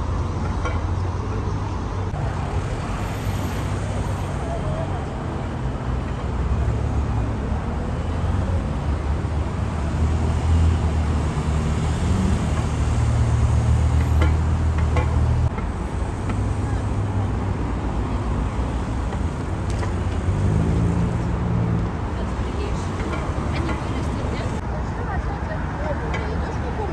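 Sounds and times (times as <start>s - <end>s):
rumble of passing cars: 0.0s - 26.9s.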